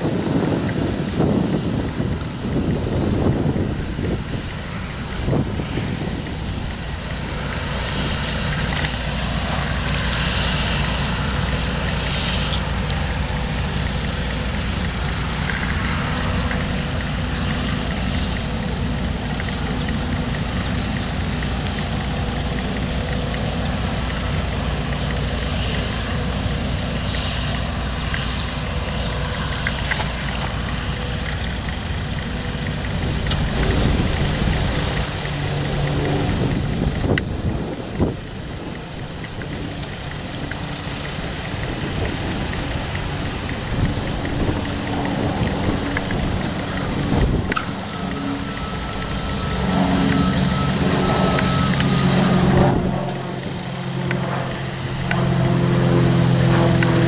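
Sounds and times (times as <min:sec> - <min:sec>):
combine harvester engine drone: 0:00.0 - 0:57.0
threshing rush: 0:00.9 - 0:57.0
thin steady whine: 0:01.8 - 0:57.0.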